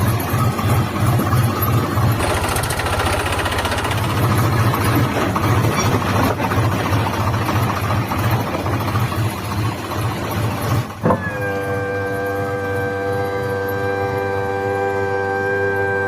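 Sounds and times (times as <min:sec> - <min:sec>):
small tractor engine chugging: 0:00.0 - 0:14.6.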